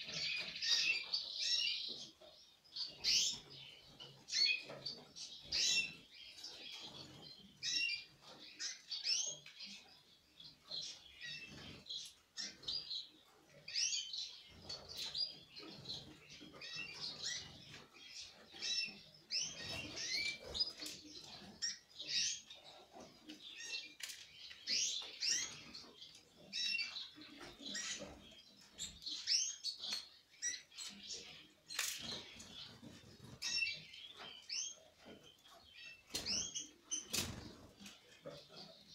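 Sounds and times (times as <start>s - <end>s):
canaries chirping: 0.0s - 38.9s.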